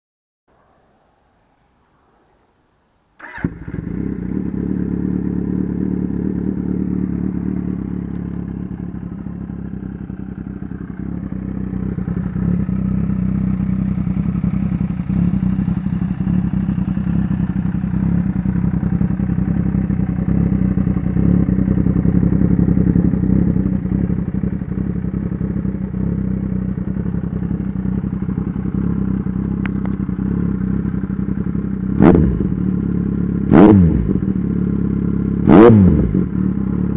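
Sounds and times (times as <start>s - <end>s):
motorcycle engine running: 3.2s - 36.9s.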